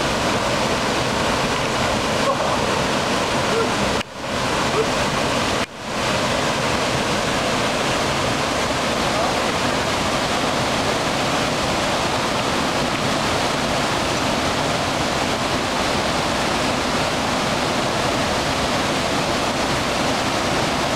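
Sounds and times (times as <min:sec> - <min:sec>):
river rushing over rocks: 0:00.0 - 0:20.9.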